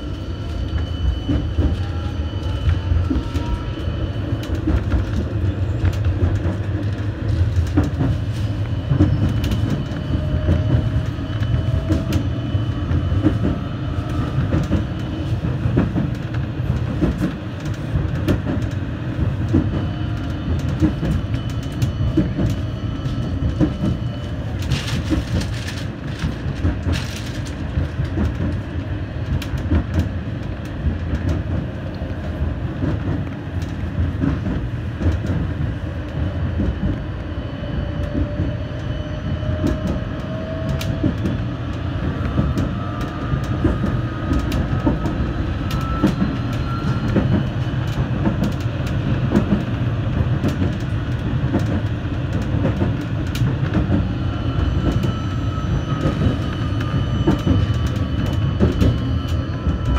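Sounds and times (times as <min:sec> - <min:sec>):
tram wheels rumbling on rails: 0:00.0 - 0:59.9.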